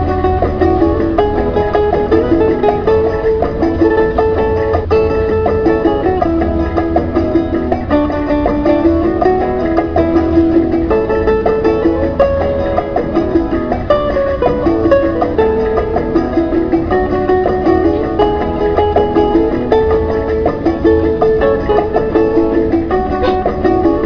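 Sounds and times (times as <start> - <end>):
low bass: 0.0 - 24.0
plucked string melody: 0.0 - 24.0.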